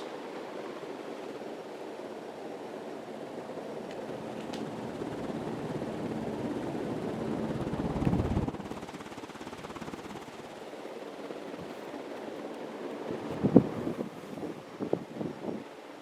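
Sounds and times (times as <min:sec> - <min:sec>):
ceiling fan humming: 0:00.0 - 0:16.0.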